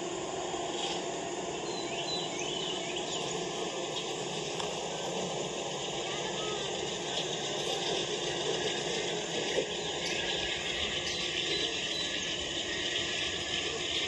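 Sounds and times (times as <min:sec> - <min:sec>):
faint high chirp-like calls: 0:00.8 - 0:04.2, 0:04.9 - 0:14.0.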